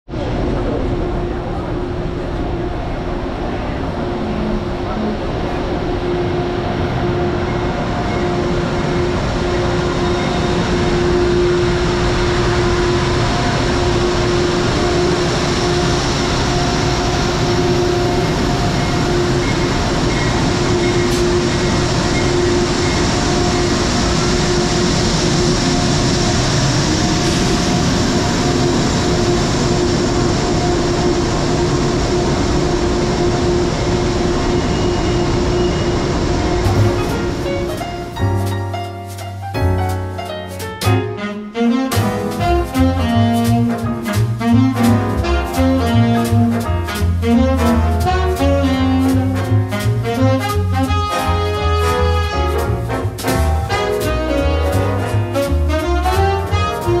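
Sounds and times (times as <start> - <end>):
standing train humming: 0.1 - 57.0.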